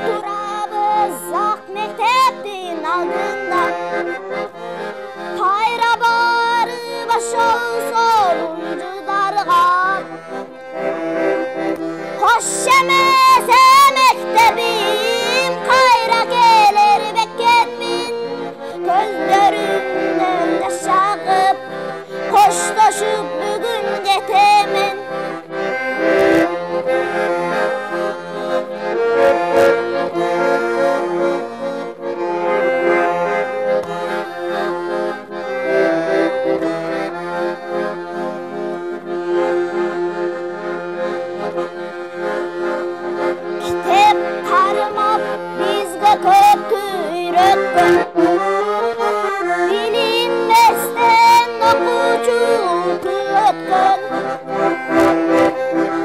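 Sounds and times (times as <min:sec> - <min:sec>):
piano accordion playing chords and melody: 0:00.0 - 0:56.0.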